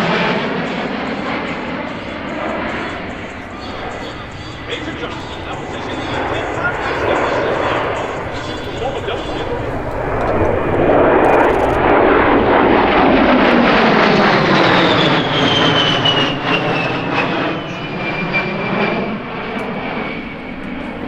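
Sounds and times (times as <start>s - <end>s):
airplane flying past: 0.0s - 21.0s.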